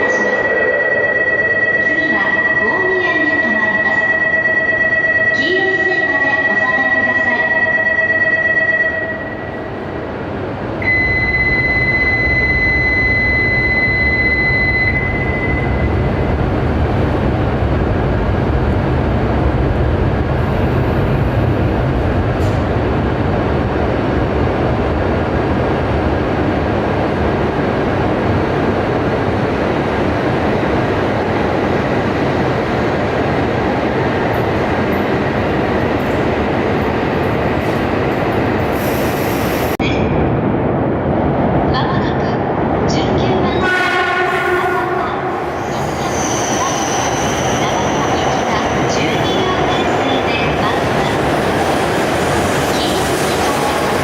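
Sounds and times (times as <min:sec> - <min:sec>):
train rumbling past: 0:09.5 - 0:54.0.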